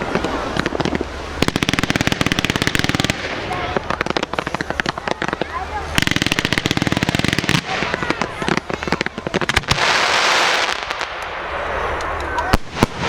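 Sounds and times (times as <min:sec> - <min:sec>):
fireworks bangs: 0:00.0 - 0:13.0
fireworks crackling hiss: 0:00.0 - 0:13.0.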